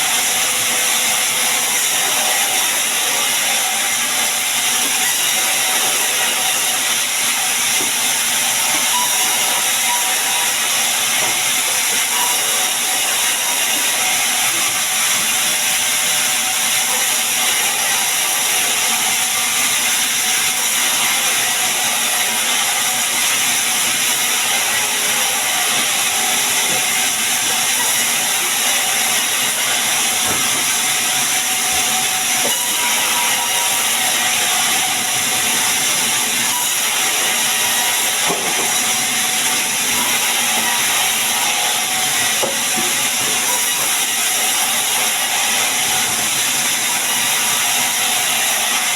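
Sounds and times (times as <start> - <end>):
sawmill saw cutting wood: 0.0 - 48.9.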